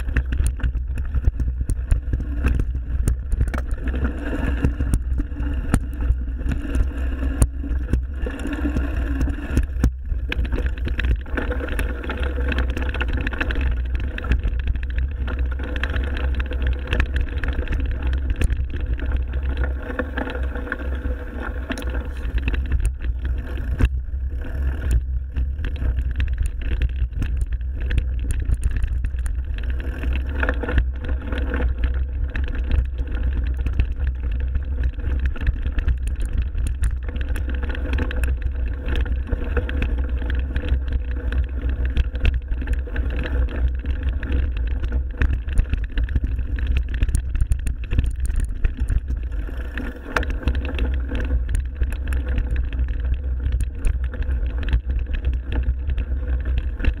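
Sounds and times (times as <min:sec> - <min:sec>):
bike rattling clicks: 0:00.0 - 0:57.0
wind rumble on microphone: 0:00.0 - 0:57.0.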